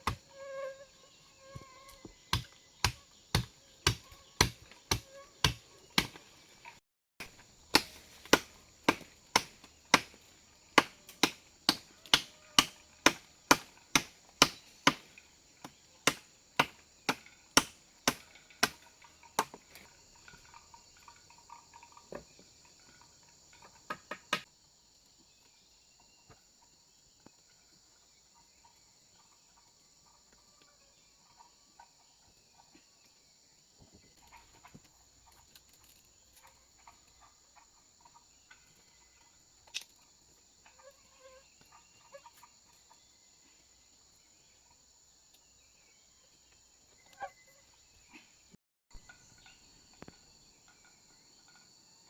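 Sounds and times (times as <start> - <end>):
high-pitched insect chorus: 7.4 - 48.2, 49.0 - 52.0.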